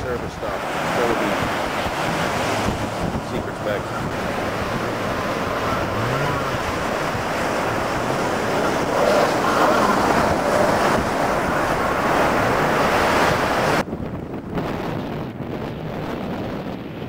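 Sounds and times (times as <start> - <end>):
surf washing: 0.0 - 14.7
jet ski engine: 0.0 - 16.8
wind rushing over microphone: 0.0 - 17.0.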